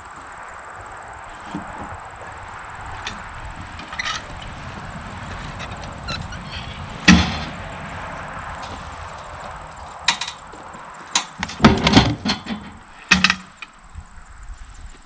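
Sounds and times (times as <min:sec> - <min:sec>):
sharp knocks and clunks: 0:01.4 - 0:13.7.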